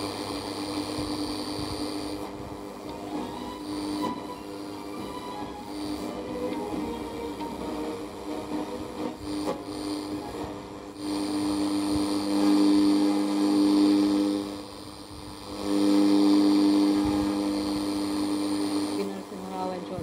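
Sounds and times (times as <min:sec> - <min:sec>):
radio droning tone with hiss: 0:00.0 - 0:20.0.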